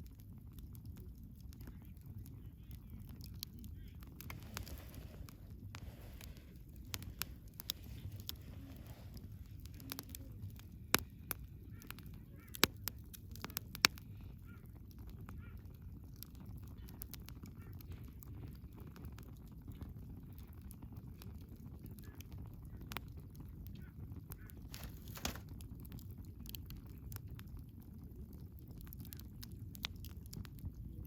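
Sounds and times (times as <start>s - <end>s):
burning wood popping: 0.0s - 31.0s
wood fire crackling: 0.0s - 31.0s.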